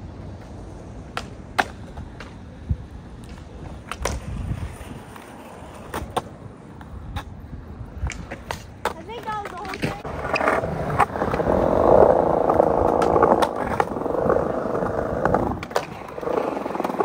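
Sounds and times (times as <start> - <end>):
skateboard wheels rolling on concrete: 0.0 - 17.0
skateboards clacking on ground: 0.0 - 17.0.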